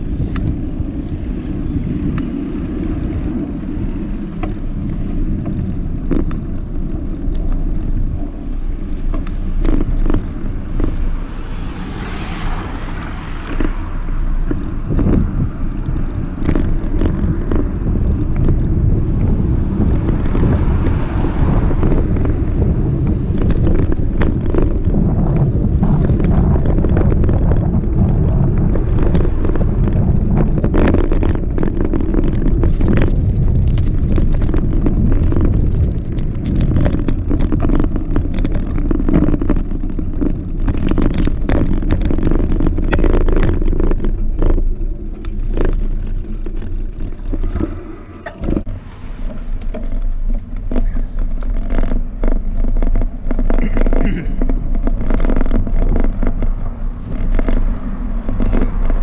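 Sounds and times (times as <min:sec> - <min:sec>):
bicycle rattles and knocks: 0:00.0 - 0:59.0
wind buffeting microphone: 0:00.0 - 0:59.0.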